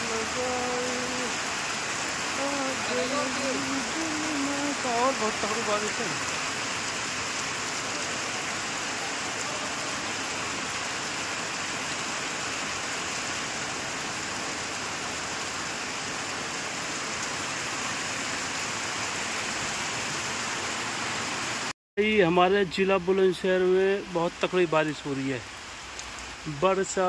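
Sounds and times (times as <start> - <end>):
heavy rain on wet ground: 0.0 - 27.0.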